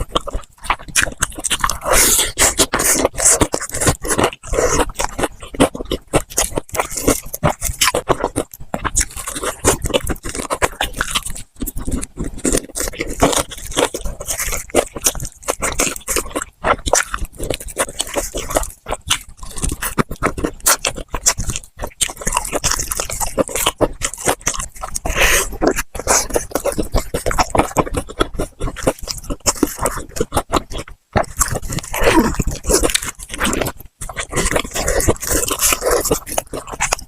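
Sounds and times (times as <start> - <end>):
crunching and chewing crispy food: 0.0 - 37.0.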